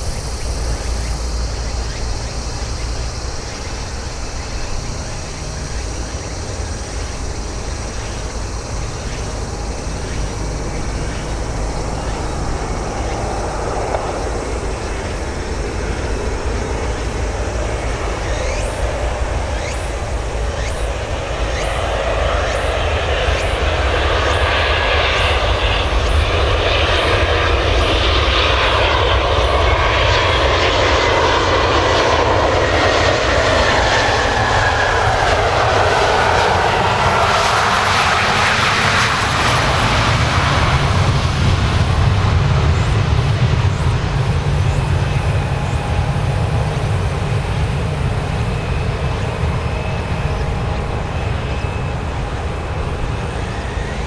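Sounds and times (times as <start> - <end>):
deep jet rumble: 0.0 - 54.0
jet engine whine: 0.0 - 54.0.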